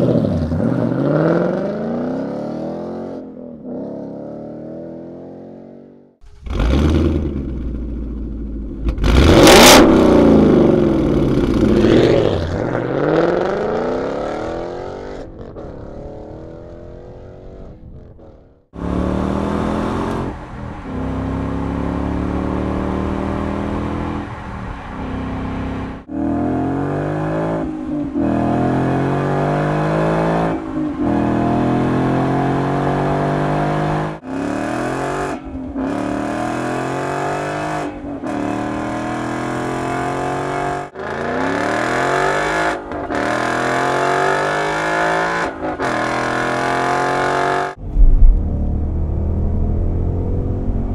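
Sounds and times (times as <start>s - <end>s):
car engine accelerating hard: 6.3s - 50.9s.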